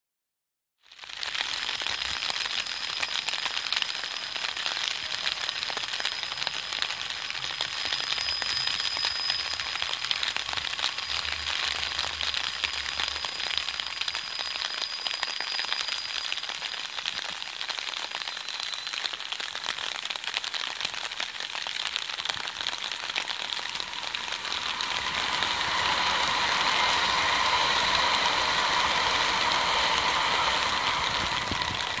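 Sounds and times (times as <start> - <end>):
high-speed train rushing with whine: 1.5 - 19.7, 20.4 - 32.0.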